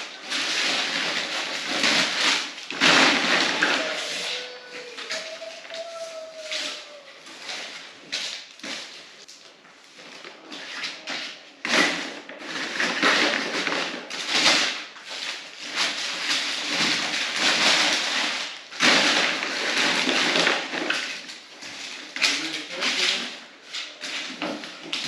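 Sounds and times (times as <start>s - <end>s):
wrapping paper crumpling: 0.0s - 25.0s.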